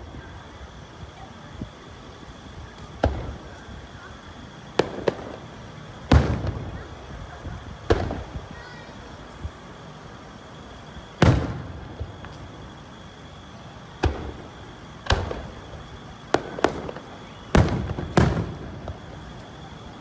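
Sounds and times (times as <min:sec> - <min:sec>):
firework shells bursting: 0:02.7 - 0:09.6, 0:10.4 - 0:19.7.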